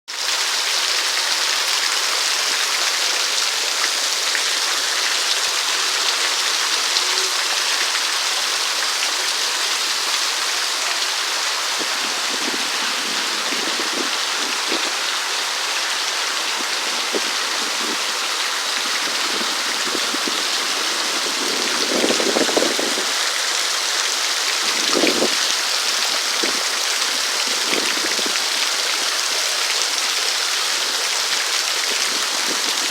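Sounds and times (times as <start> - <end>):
steady rain hiss: 0.2 - 32.9.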